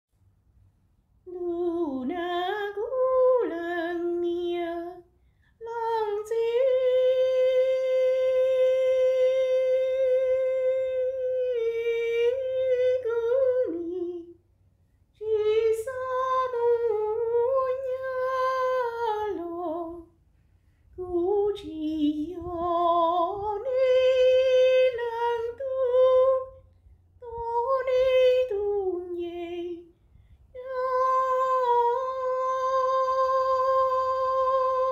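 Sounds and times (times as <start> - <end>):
woman singing unaccompanied: 1.3 - 14.4, 15.2 - 20.2, 21.0 - 29.9, 30.6 - 34.9.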